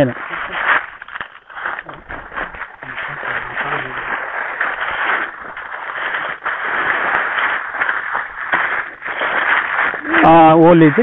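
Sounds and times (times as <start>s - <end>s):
dry leaves rustling and crackling: 0.0s - 11.0s
footsteps shifting on leaves: 0.0s - 11.0s.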